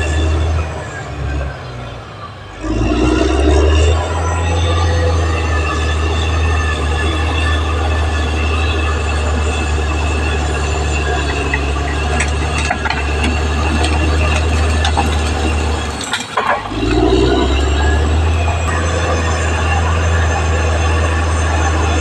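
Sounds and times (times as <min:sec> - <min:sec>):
bulldozer diesel engine: 0:00.0 - 0:22.0
metallic clanks of crawler tracks: 0:03.6 - 0:22.0.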